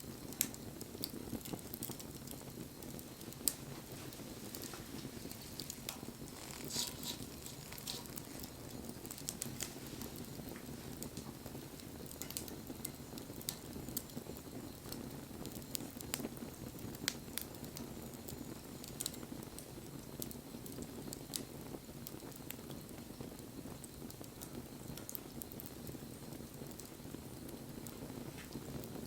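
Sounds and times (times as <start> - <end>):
bonfire flame rushing: 0.0 - 29.0
fire crackling and popping: 0.0 - 29.0.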